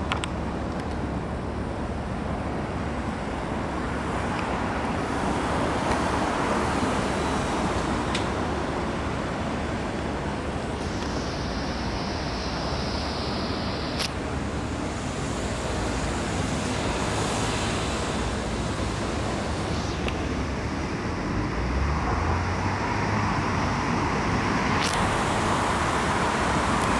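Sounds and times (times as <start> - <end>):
city traffic noise: 0.0 - 26.9.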